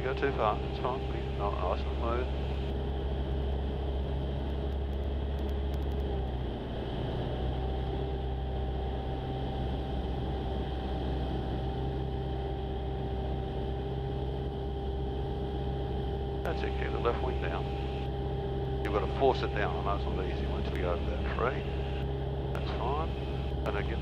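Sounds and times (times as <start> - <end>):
light aircraft engine and propeller: 0.0 - 24.0.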